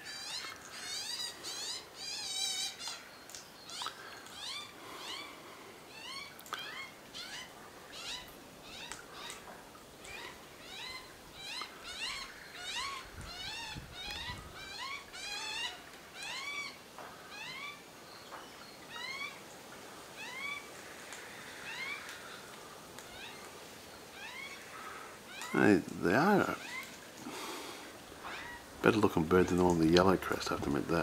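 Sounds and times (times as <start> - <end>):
corellas calling: 0.0 - 31.0.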